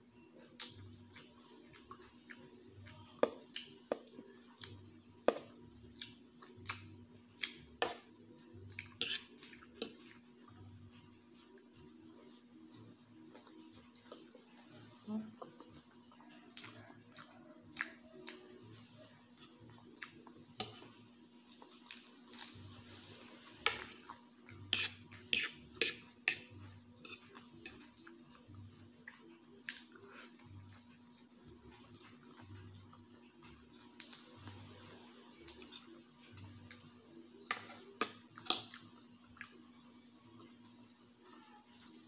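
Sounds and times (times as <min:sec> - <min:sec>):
chewing noodles: 0:00.4 - 0:42.0.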